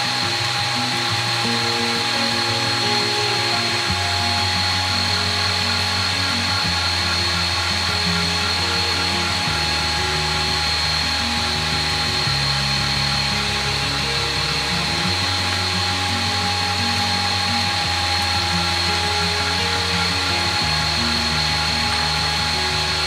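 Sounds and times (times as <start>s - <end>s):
background music with bass line: 0.0s - 23.0s
stand mixer motor whining: 0.0s - 23.0s.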